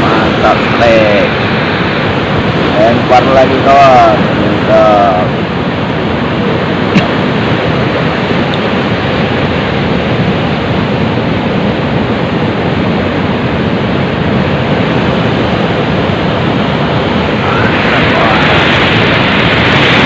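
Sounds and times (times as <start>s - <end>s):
surf rushing: 0.0s - 20.0s
wind: 0.0s - 20.0s.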